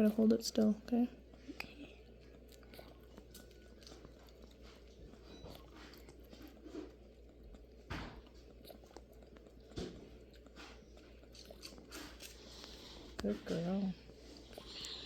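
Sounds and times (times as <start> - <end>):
goat kid sucking on bottle: 1.2 - 15.0.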